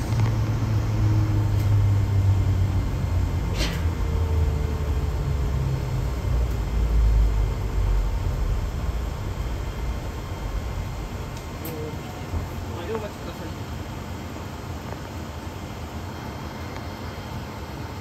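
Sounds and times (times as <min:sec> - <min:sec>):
bus cabin rumble: 0:00.0 - 0:18.0.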